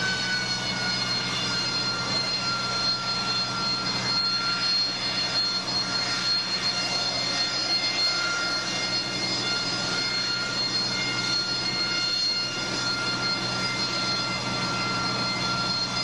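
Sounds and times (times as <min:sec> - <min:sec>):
high whining turbine tones: 0:00.0 - 0:16.0
loud jet noise: 0:00.0 - 0:16.0.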